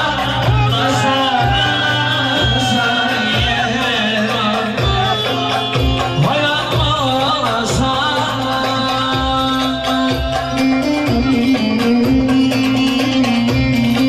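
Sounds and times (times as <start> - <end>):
person singing: 0.0 - 13.0
folk dance tune on long-necked lute: 0.0 - 14.0.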